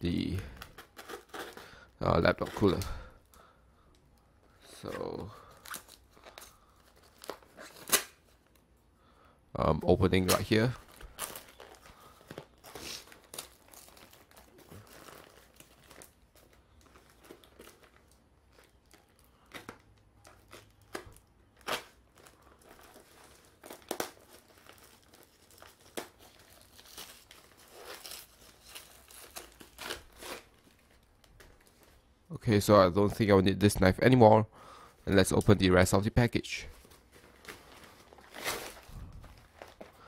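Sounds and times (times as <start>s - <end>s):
plastic bag crinkling and tearing: 0.0s - 8.7s, 10.0s - 32.2s, 36.2s - 40.0s.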